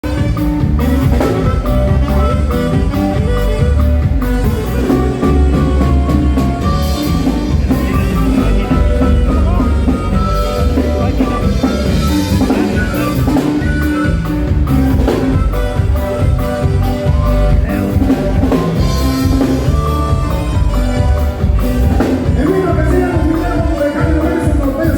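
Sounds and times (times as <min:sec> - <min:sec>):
bass: 0:00.0 - 0:24.9
saxophone-led band playing polka: 0:00.0 - 0:24.9
quick drum beat: 0:00.1 - 0:24.9.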